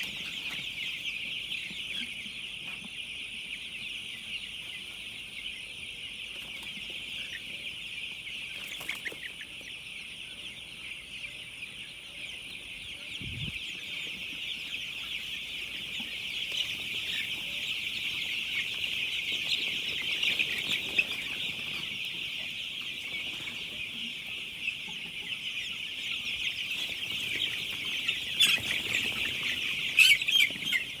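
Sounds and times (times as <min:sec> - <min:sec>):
flock of chickens calling: 0:00.0 - 0:31.0.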